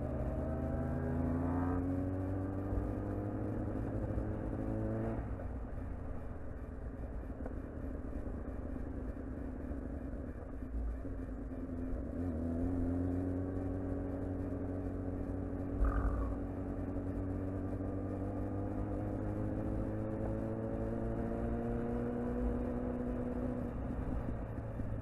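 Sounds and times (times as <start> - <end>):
motorcycle engine cruising: 0.0 - 25.0
road and wind rumble: 0.0 - 25.0.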